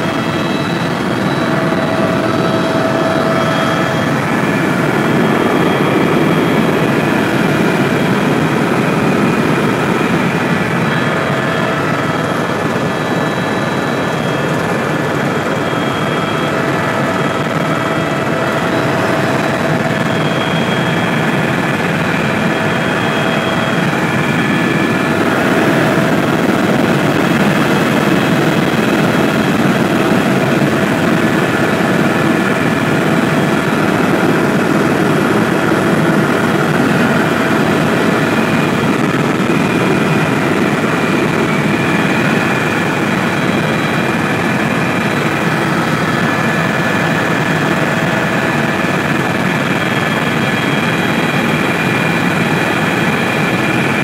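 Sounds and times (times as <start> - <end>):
helicopter engine and rotors: 0.0 - 54.0.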